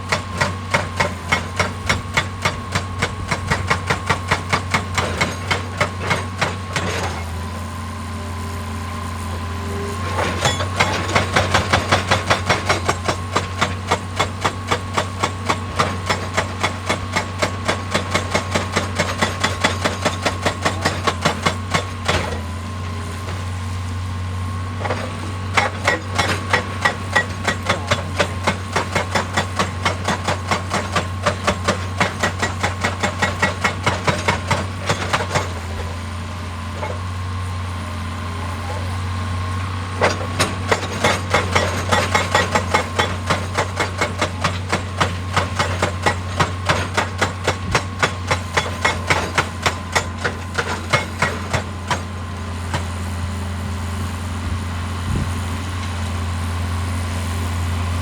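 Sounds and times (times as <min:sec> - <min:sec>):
hydraulic breaker hammering rock: 0:00.0 - 0:24.0, 0:24.7 - 0:37.2, 0:38.0 - 0:55.2
excavator engine hum: 0:00.0 - 0:58.0.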